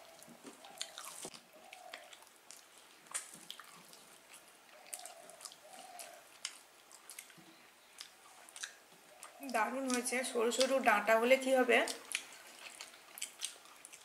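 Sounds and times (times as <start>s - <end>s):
chewing: 0.0s - 10.9s, 11.8s - 14.0s
fingers mixing food on plates: 0.0s - 14.0s.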